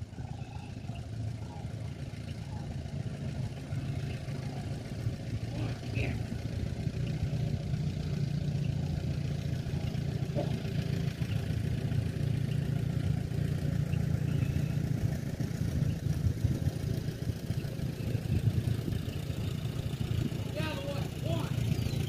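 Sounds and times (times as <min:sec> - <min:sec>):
tractor engine driving past: 0:00.0 - 0:22.0.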